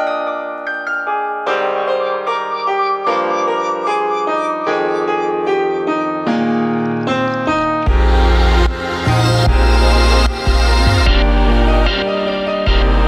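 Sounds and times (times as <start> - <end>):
lower instrumental part: 0.0 - 13.0
piano chords: 0.0 - 13.0.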